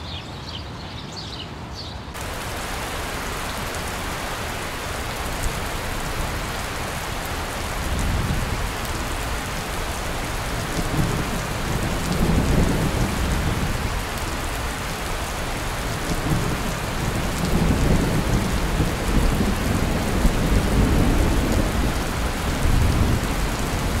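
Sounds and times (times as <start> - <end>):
rain falling and splashing: 2.2 - 24.0.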